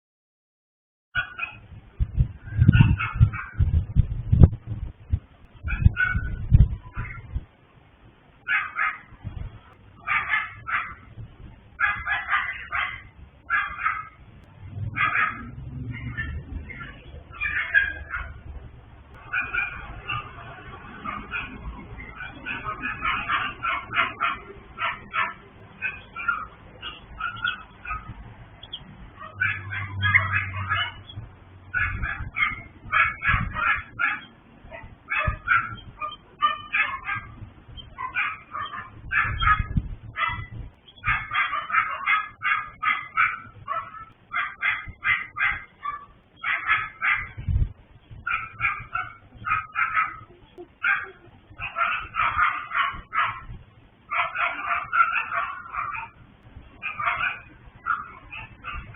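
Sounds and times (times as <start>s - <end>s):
small dogs yapping: 1.2s - 1.6s, 2.5s - 3.7s, 5.6s - 7.3s, 8.4s - 9.2s, 10.0s - 11.1s, 11.8s - 14.2s, 14.8s - 18.5s, 19.1s - 47.5s, 48.2s - 56.2s, 56.8s - 58.9s.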